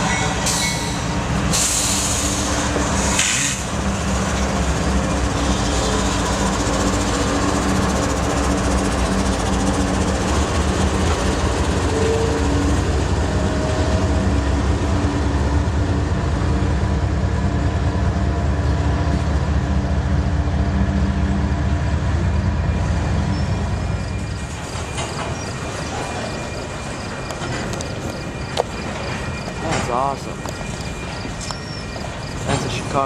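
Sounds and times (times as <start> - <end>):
diesel locomotive engines rumbling: 0.0 - 33.0.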